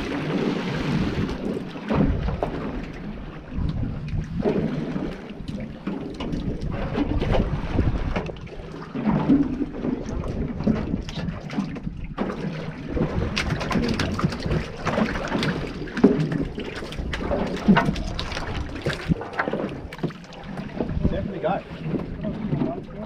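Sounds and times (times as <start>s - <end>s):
water slapping boat hull: 0.0s - 23.0s
wind buffeting microphone: 0.0s - 23.0s.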